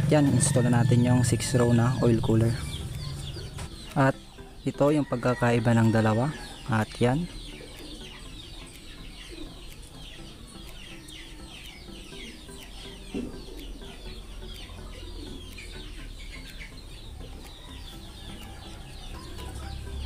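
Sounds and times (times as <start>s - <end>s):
chickens clucking: 0.0s - 20.0s
small birds chirping: 0.0s - 20.0s.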